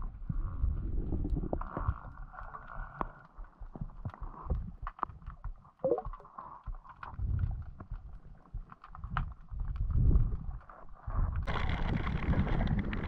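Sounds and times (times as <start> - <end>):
clicks and crackles: 0.4 - 13.0.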